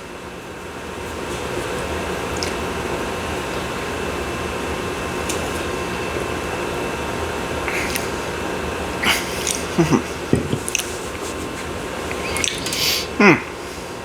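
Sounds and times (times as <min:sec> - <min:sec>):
fan humming: 0:00.0 - 0:14.0.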